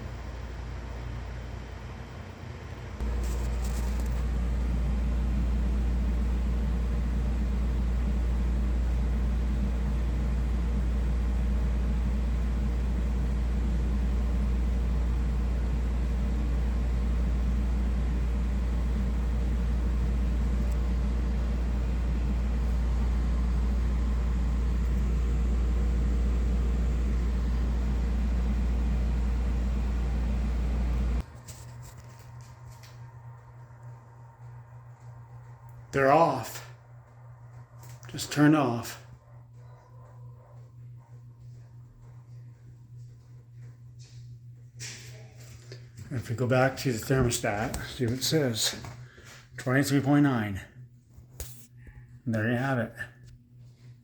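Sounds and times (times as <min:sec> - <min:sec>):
air conditioner humming: 0:00.0 - 0:54.0.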